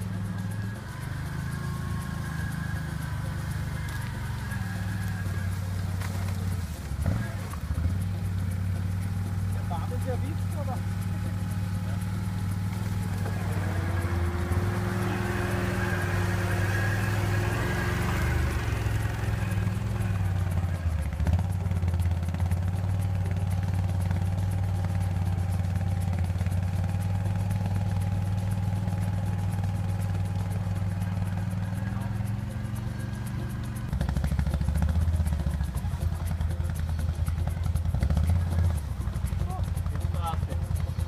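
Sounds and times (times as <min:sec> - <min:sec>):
quad bike engine at low revs: 0:00.0 - 0:41.0.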